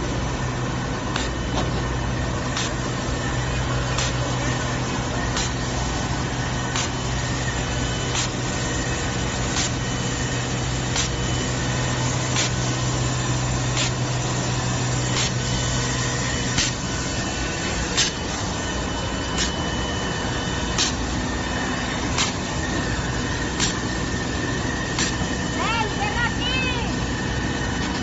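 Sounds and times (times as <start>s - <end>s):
conveyor noise: 0.0s - 28.0s
labelling machine motor hum: 0.0s - 28.0s.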